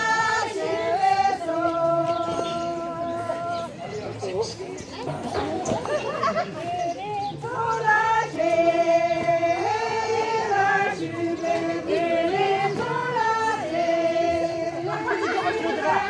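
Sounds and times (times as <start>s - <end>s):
women singing in unison: 0.0s - 4.0s, 6.6s - 16.0s.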